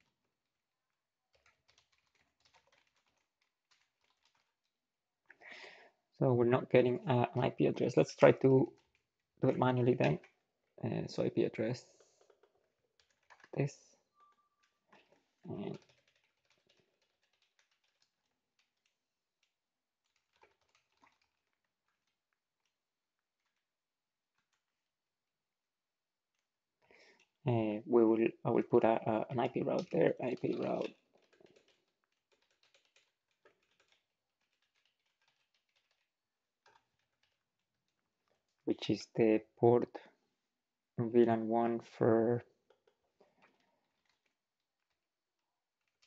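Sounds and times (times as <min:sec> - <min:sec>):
faint keyboard typing: 0:01.3 - 0:05.8, 0:06.6 - 0:24.9, 0:26.3 - 0:40.2, 0:41.1 - 0:46.0.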